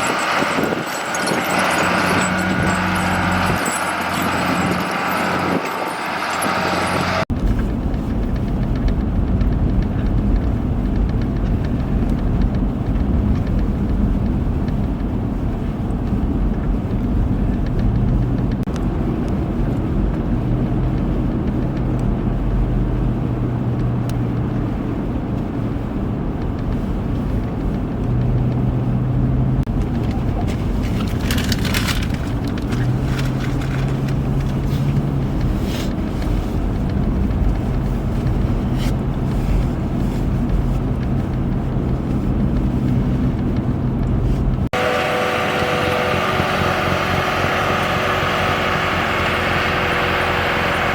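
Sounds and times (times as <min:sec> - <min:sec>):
car engine and road rumble: 0:00.0 - 0:50.9.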